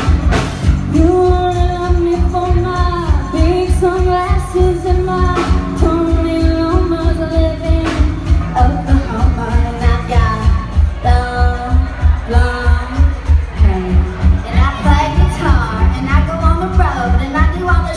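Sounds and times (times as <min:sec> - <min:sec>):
band song with singer: 0:00.0 - 0:17.9.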